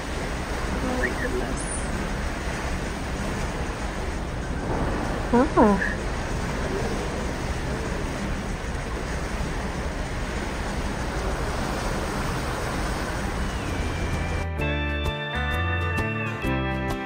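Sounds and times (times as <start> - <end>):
wind rumble on microphone: 0.0 - 14.4
wind and sea rushing: 0.0 - 14.6.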